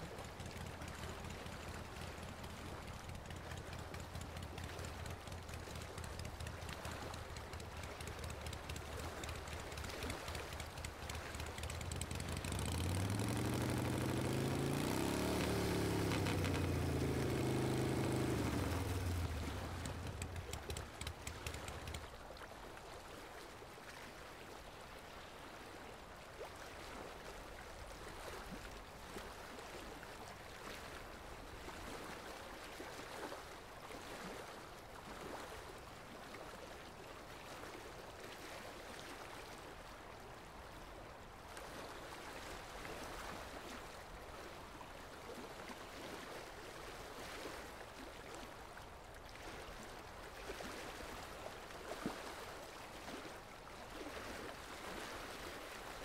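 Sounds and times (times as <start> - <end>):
water gurgling and lapping: 0.0 - 56.0.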